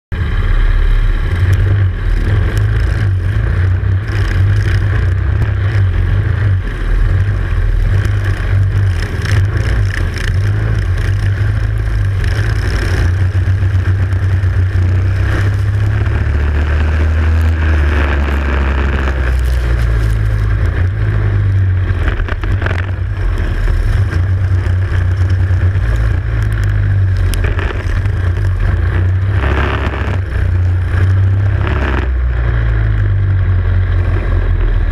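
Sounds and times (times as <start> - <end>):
other kart engines: 0.1 - 34.9
racing kart engine: 0.1 - 34.9.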